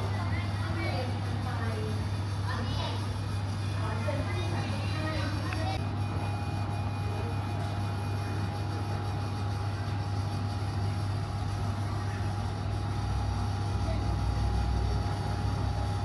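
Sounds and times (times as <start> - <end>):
terminal background hum: 0.0 - 16.0.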